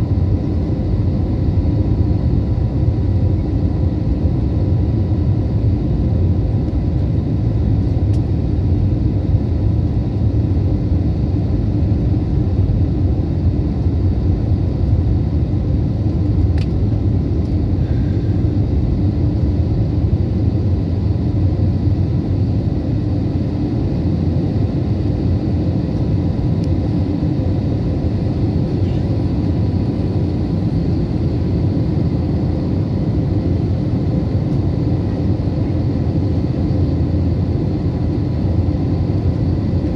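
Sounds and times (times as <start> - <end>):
jet cabin engine rumble: 0.0 - 39.9.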